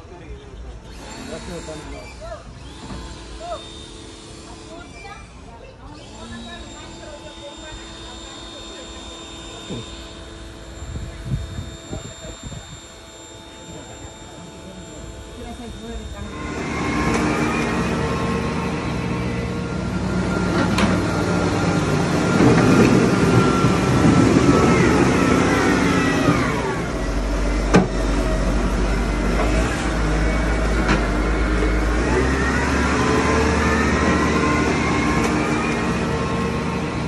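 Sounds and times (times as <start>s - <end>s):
loader engine under load: 0.0s - 37.0s
high hydraulic whine: 0.8s - 37.0s.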